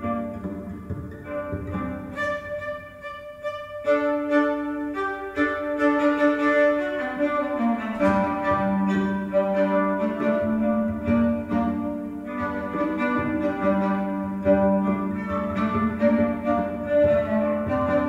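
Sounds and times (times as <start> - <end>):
bowed violin melody: 0.0 - 18.0.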